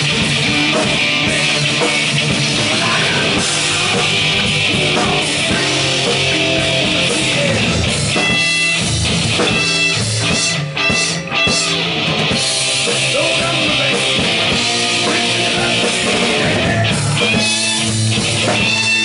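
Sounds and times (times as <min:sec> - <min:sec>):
bass guitar: 0:00.0 - 0:19.0
distorted electric guitars: 0:00.0 - 0:19.0
drum kit: 0:00.0 - 0:19.0.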